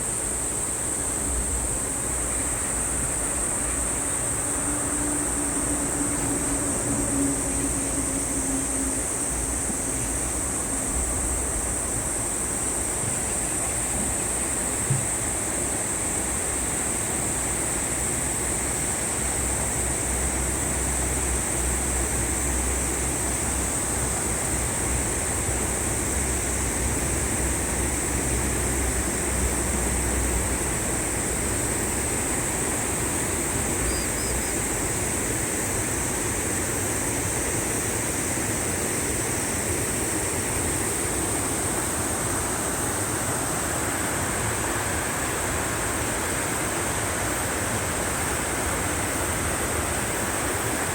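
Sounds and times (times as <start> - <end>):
high-pitched hiss: 0.0 - 50.9
stream rushing: 0.0 - 50.9.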